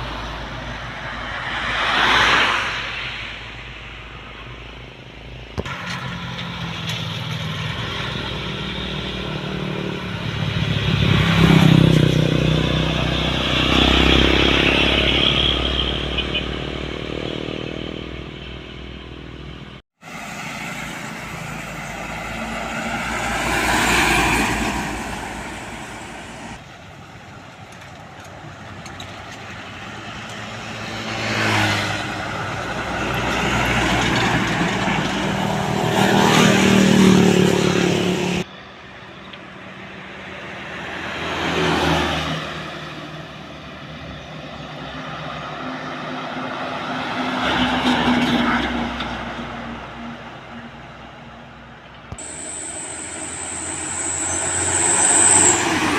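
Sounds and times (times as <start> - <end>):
trucks passing: 0.0 - 55.9.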